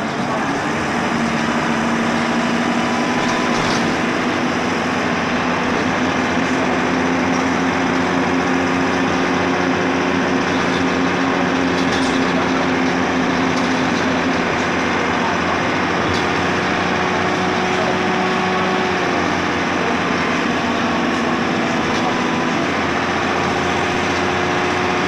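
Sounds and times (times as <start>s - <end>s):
broad rushing noise: 0.0s - 25.0s
bus diesel engine drone: 0.0s - 25.0s.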